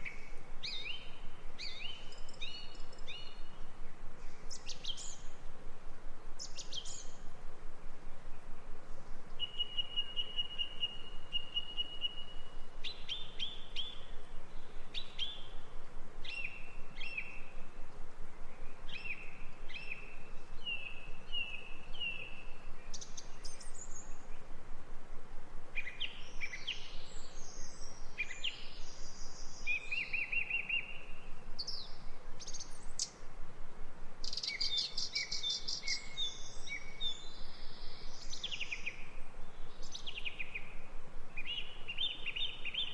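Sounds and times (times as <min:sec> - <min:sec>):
songbirds singing: 0:00.0 - 0:05.5, 0:09.3 - 0:24.6, 0:25.8 - 0:33.2, 0:34.2 - 0:42.9
steady background hiss: 0:00.0 - 0:42.9.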